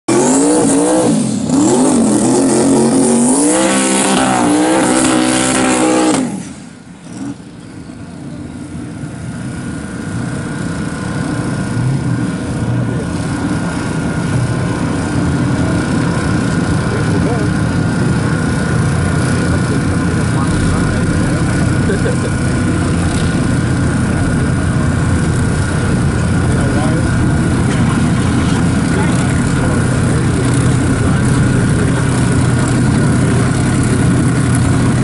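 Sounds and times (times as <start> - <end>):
car engine revving hard: 0.1 - 7.4, 11.3 - 35.0
low engine rumble: 0.6 - 35.0.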